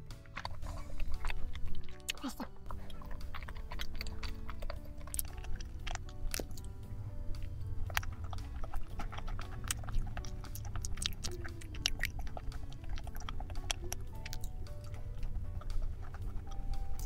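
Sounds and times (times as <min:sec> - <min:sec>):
chewing crunchy cookie: 0:00.0 - 0:17.0
faint background music: 0:00.0 - 0:17.0
low rumble: 0:00.0 - 0:17.0.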